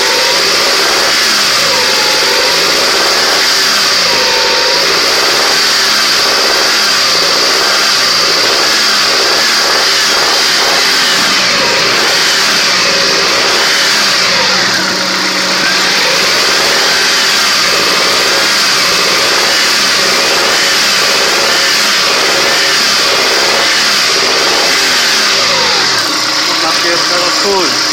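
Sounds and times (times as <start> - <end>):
car engine revving: 0.0 - 27.9.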